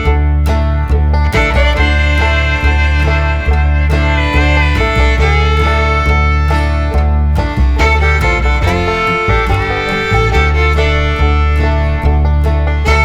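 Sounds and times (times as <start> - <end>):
bluegrass fiddle and guitar music: 0.0 - 13.0.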